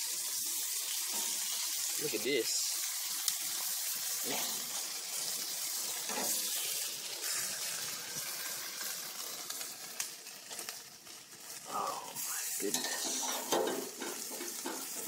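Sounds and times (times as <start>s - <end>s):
chicken sizzling on grill: 0.0s - 15.0s.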